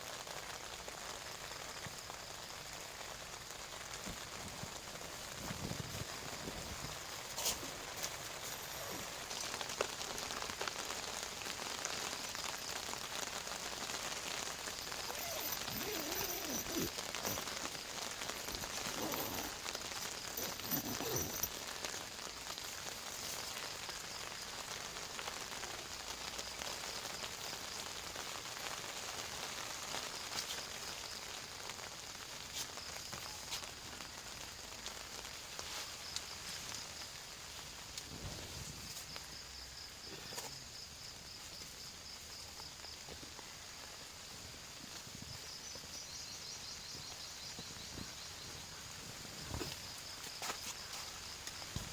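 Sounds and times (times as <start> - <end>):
rain on a tent: 0.0 - 51.9.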